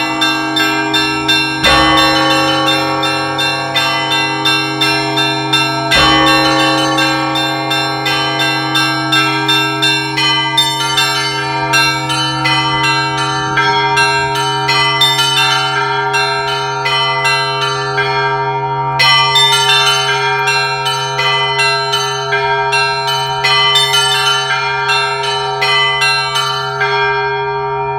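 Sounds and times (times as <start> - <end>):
large bell humming: 0.0 - 27.9
mid-sized bells ringing: 0.0 - 27.9
small high bells ringing: 0.0 - 27.9.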